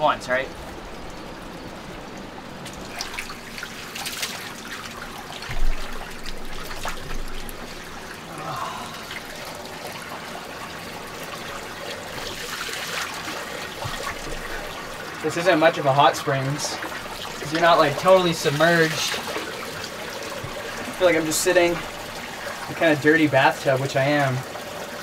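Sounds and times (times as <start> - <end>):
water trickling into bathtub: 0.0 - 25.0.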